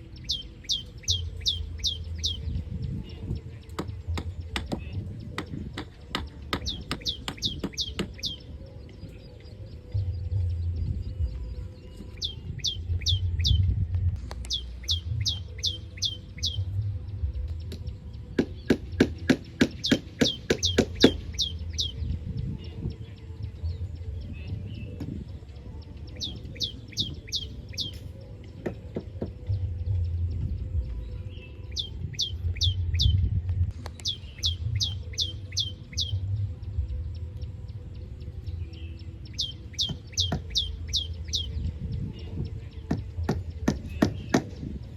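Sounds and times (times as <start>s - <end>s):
bird chirps: 0.0s - 13.7s, 14.3s - 44.9s.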